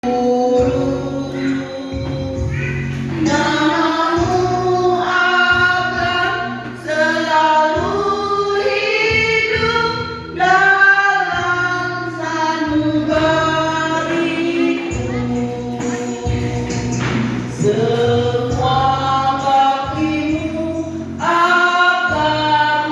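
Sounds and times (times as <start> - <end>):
backing track with bass line: 0.0 - 22.9
woman singing into a microphone: 0.0 - 22.9.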